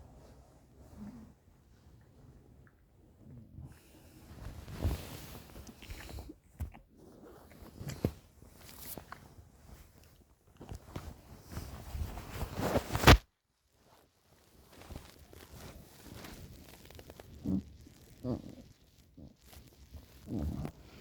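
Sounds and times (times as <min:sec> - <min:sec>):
bedding rustling: 0:03.6 - 0:21.0.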